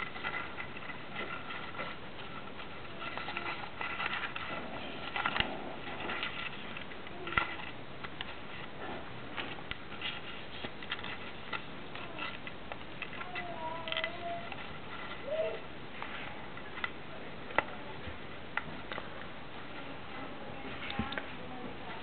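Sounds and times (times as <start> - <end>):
paper crinkling and rustling: 0.0 - 17.6.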